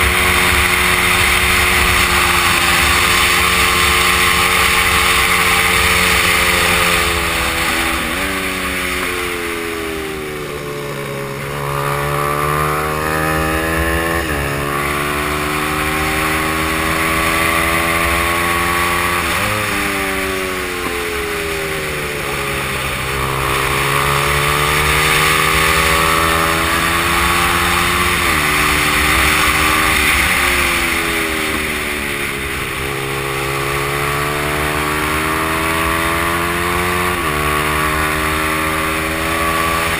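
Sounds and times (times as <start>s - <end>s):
motorcycle engine racing: 0.0s - 39.9s.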